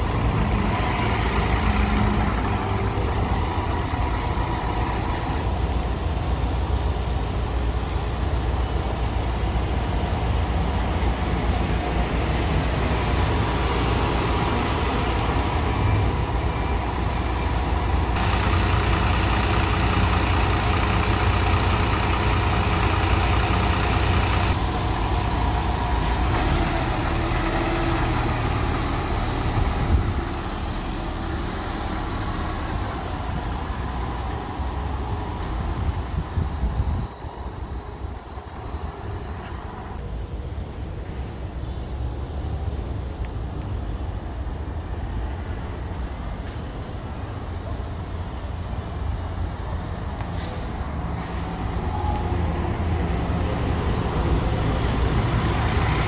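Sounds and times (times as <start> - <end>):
bus diesel engine running: 0.0 - 40.2, 42.8 - 56.0.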